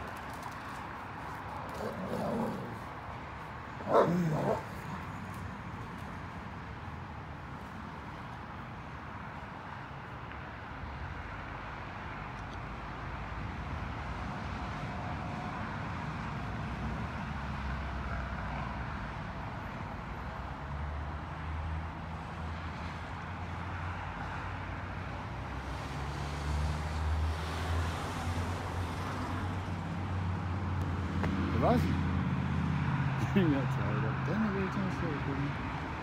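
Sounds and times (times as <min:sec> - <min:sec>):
low rumble of motor vehicles: 0:00.0 - 0:36.0.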